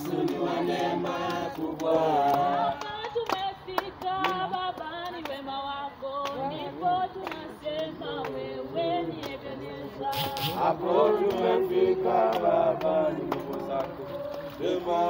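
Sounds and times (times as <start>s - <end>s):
group singing unaccompanied: 0.0s - 15.0s.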